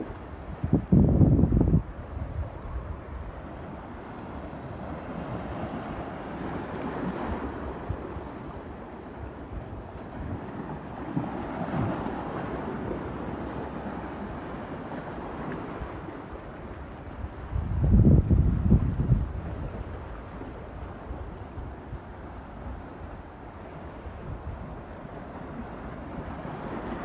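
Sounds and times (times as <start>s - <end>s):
surf washing in: 0.0s - 27.0s
wind buffeting the microphone: 0.0s - 27.0s.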